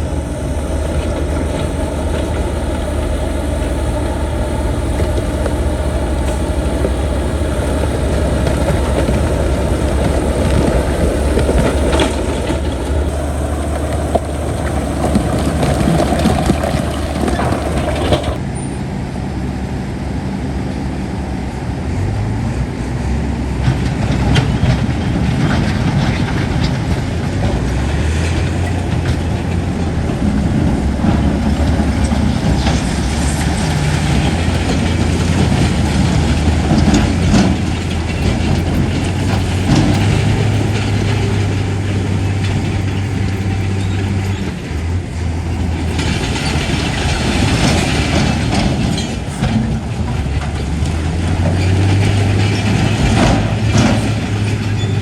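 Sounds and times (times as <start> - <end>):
bulldozer diesel engine running: 0.0 - 18.5, 20.8 - 55.0
steel tracks clanking and rattling: 0.0 - 18.8, 23.5 - 55.0.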